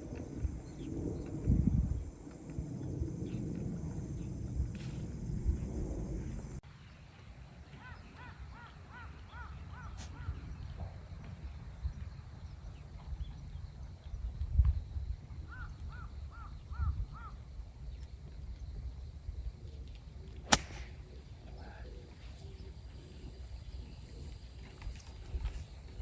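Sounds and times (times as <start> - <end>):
wind rumble on microphone: 0.0 - 6.6, 9.8 - 26.0.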